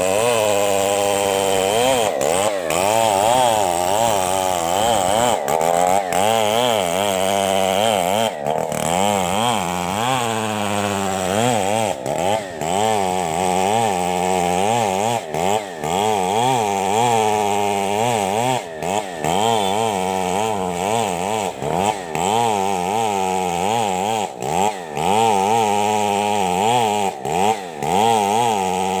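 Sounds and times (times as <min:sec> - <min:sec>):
chainsaw cutting log: 0:00.0 - 0:29.0.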